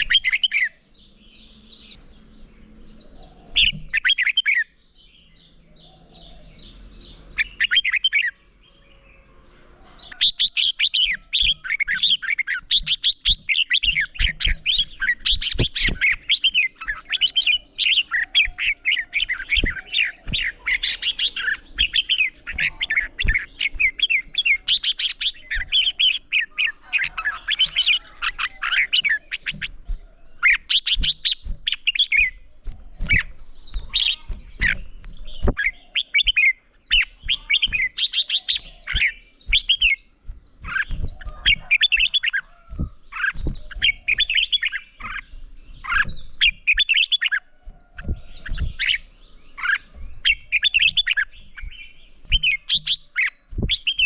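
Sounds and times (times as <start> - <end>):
bulbuls singing warbling phrases: 0.0 - 9.0, 9.8 - 54.0.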